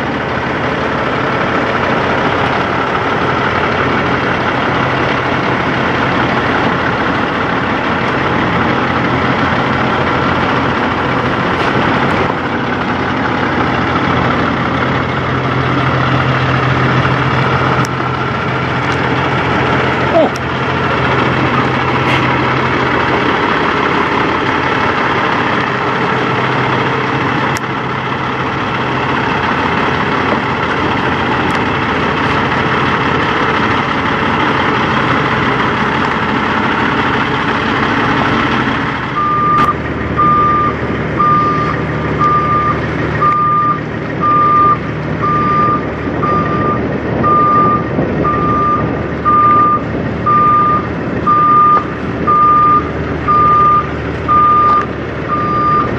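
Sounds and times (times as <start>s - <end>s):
truck diesel engine: 0.0s - 55.9s
truck reversing alarm beeping: 0.0s - 55.9s.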